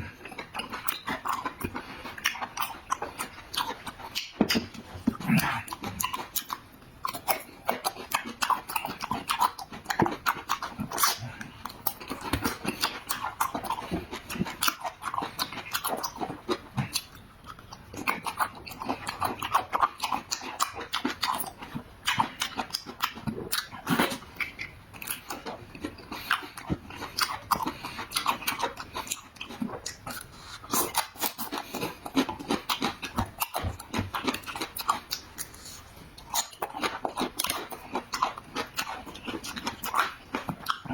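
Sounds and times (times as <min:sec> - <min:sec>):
chewing and lip-smacking: 0:00.0 - 0:40.9.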